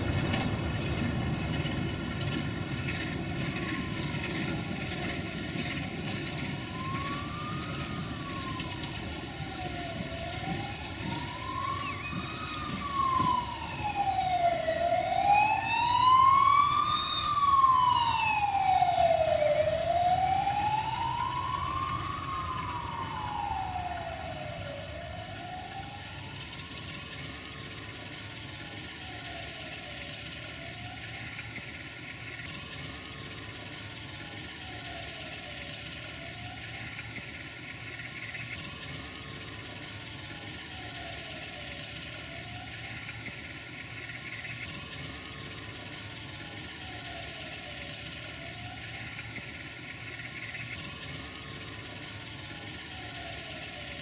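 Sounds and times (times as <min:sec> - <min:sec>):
emergency vehicle siren wailing: 0:00.0 - 0:54.0.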